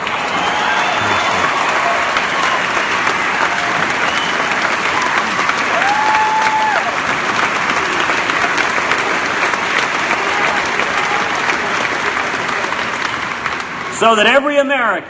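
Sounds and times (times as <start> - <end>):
crowd applauding: 0.0 - 14.8.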